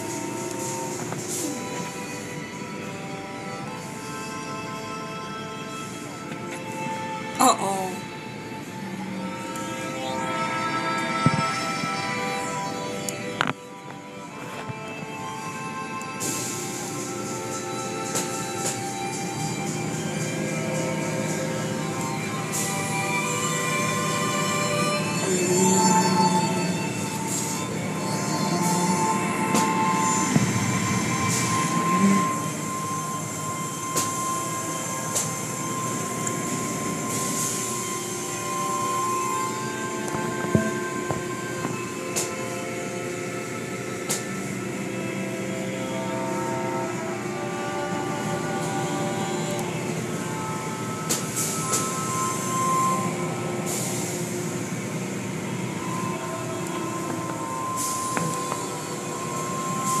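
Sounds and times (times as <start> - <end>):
machine hum with whine: 0.0 - 60.0.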